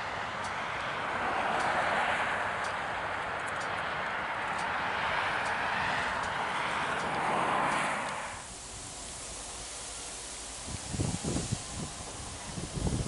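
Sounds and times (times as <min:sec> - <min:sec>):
distant train passing: 0:00.0 - 0:13.0
faint outdoor hiss: 0:00.0 - 0:13.0.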